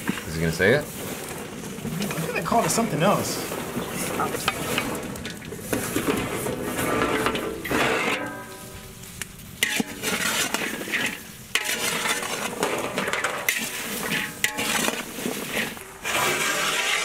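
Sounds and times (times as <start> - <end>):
metal ladle scraping pot: 0.0 - 8.9, 9.6 - 17.0
okra sizzling in pot: 0.0 - 17.0.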